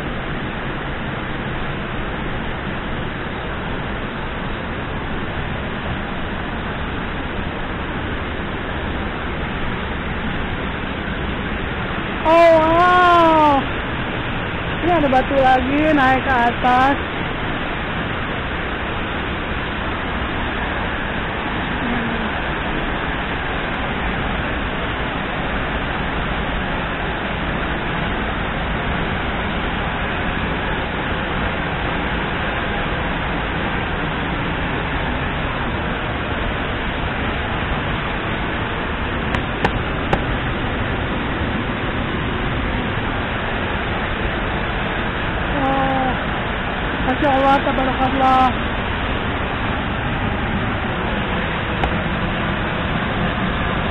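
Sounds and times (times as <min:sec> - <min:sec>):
falling rain: 0:00.0 - 0:53.9
waterfall rushing into pool: 0:00.0 - 0:53.9.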